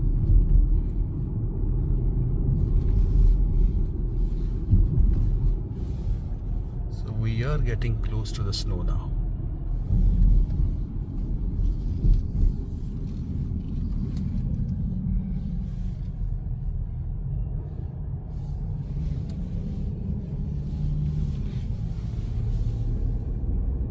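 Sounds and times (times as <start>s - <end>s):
car engine and tyre rumble: 0.0s - 23.9s.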